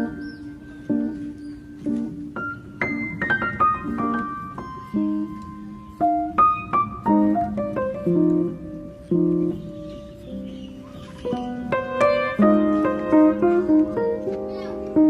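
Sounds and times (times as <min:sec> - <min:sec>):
light piano tune: 0:00.0 - 0:15.0.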